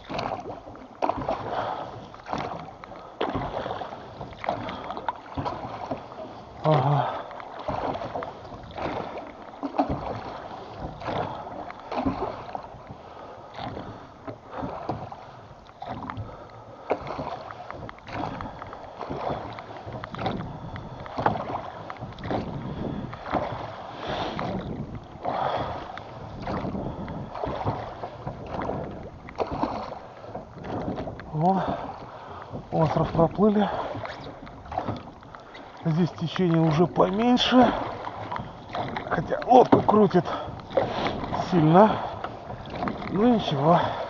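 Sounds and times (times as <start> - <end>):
oars splashing water: 0.0 - 44.0
oar knocking in oarlock: 2.2 - 12.9, 15.8 - 23.7, 24.3 - 43.8.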